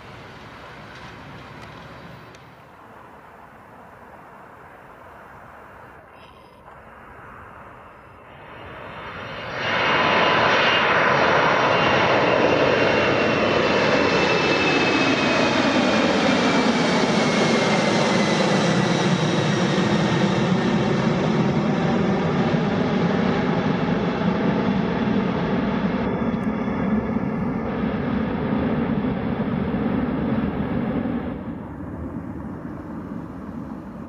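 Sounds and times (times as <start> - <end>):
jet engines at take-off power: 0.0 - 34.0.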